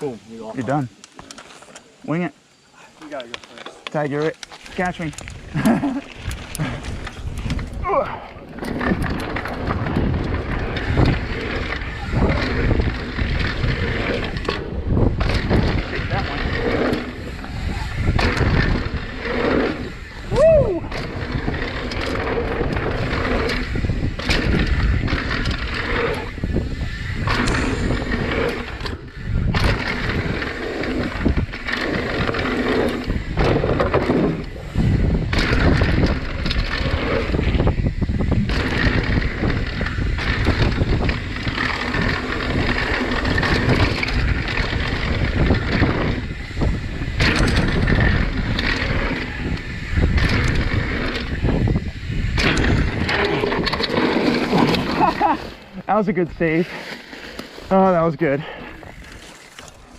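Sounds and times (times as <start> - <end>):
bike rattling and knocking: 3.2 - 59.9
tyres rumbling over dirt and rocks: 3.2 - 59.9
wind buffeting microphone: 4.7 - 59.9.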